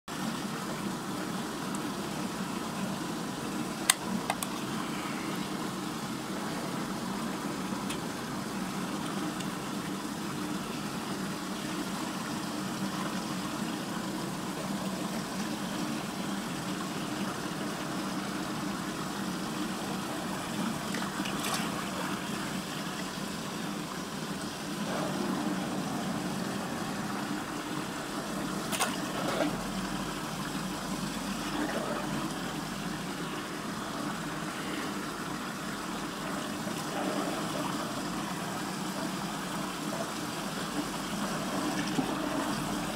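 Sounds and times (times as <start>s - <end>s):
low steady hum: 0.1s - 42.9s
water rushing down a drain: 0.1s - 42.9s.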